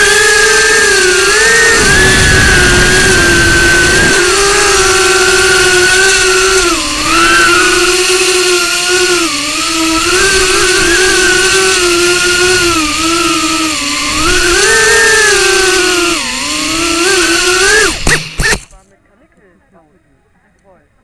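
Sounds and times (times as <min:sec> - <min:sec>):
drone motors whining: 0:00.0 - 0:18.8.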